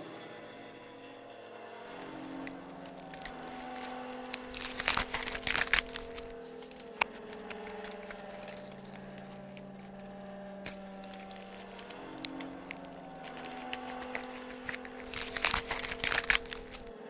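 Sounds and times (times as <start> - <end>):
sharp crack: 1.9 - 16.9
loud cracking and crunching: 1.9 - 17.0.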